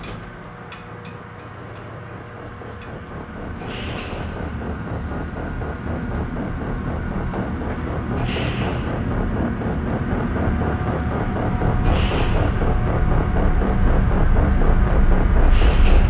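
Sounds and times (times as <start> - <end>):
elevator machinery rumbling and clattering: 0.0 - 16.0.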